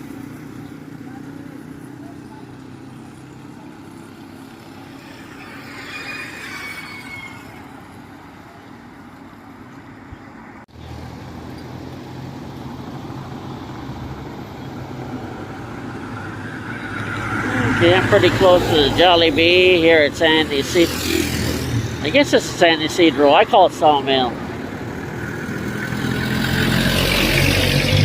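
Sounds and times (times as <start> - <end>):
vehicle passing with whine: 0.0 - 28.0.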